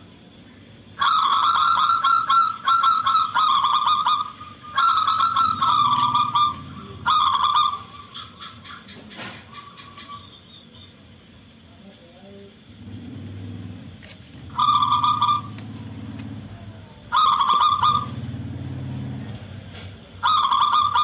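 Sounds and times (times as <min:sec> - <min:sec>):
dove cooing: 0:00.8 - 0:10.7, 0:12.8 - 0:21.0.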